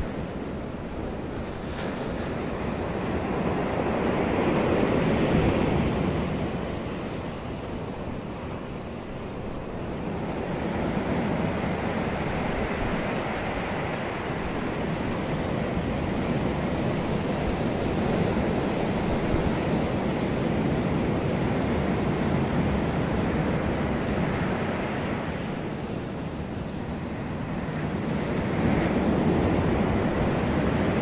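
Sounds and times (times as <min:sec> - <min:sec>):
ocean surf breaking: 0:00.0 - 0:31.0.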